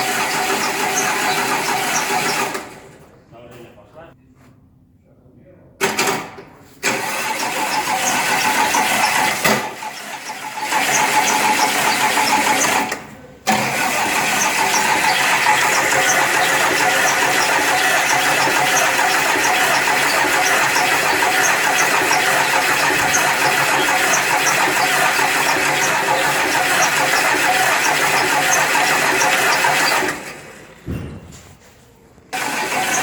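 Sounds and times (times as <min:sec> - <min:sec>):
engine starting up: 0:00.0 - 0:03.0, 0:05.8 - 0:30.8, 0:32.3 - 0:33.0.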